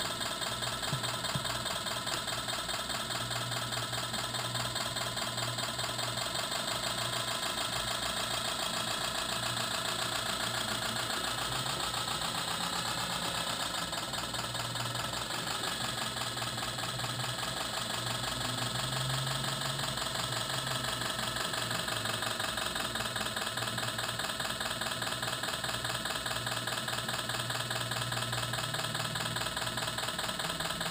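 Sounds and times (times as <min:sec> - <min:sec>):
simulated diesel engine idling: 0:00.0 - 0:30.9.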